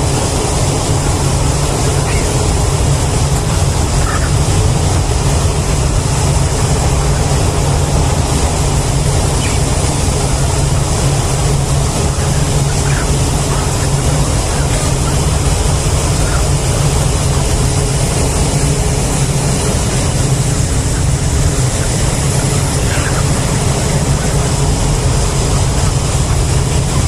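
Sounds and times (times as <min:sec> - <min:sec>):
machine humming with high hiss: 0:00.0 - 0:27.0.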